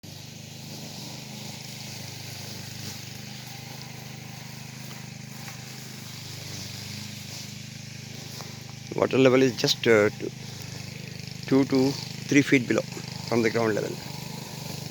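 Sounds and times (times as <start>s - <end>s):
low mechanical hum: 0.0s - 14.9s
steady hiss: 0.0s - 14.9s.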